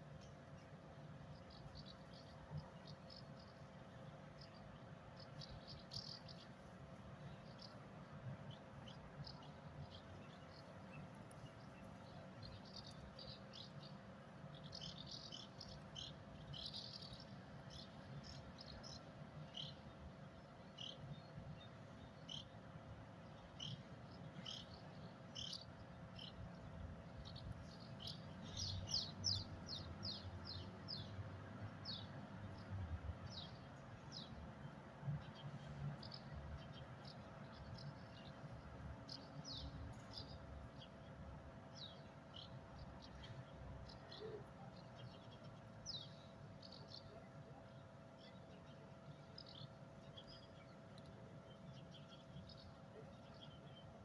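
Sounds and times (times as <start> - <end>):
low background hum: 0.0 - 54.0
small birds chirping faintly: 0.0 - 54.0.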